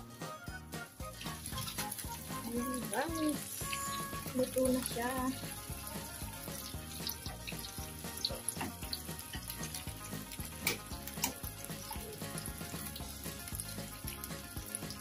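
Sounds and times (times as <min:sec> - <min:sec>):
background music with beat: 0:00.0 - 0:15.0
chicken sizzling in fat: 0:00.0 - 0:15.0.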